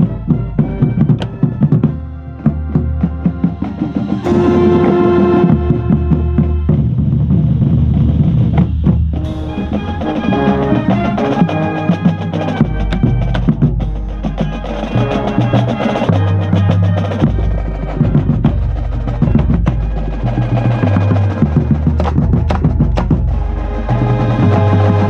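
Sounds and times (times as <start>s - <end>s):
bass and snare drums: 0.0s - 25.0s
brass low chords: 0.0s - 25.0s.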